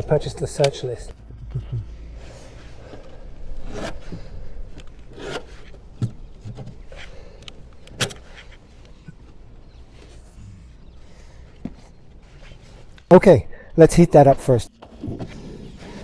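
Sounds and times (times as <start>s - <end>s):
handling noise rubbing and scraping: 0.0s - 16.0s.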